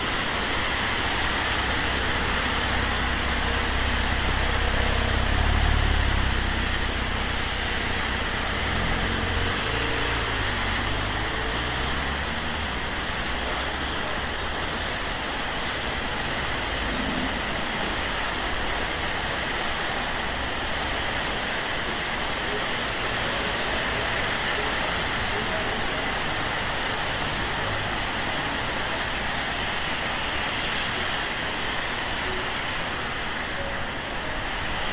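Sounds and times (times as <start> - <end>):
rain on street: 0.0 - 34.9
vehicle rumble: 0.0 - 34.9.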